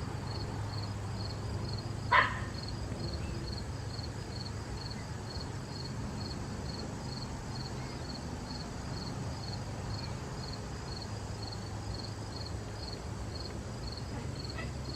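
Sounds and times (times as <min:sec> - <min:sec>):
cricket chirping: 0:00.0 - 0:14.9.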